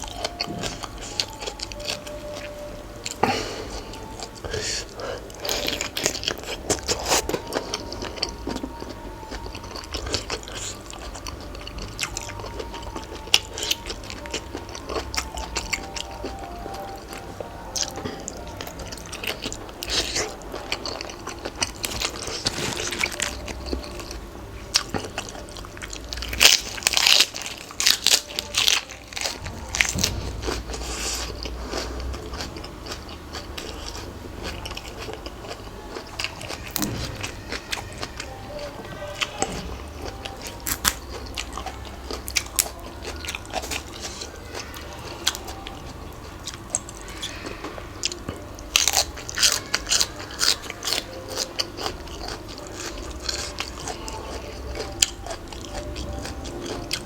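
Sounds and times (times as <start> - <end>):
crunching bites and chewing: 0.0 - 38.6, 39.2 - 57.0.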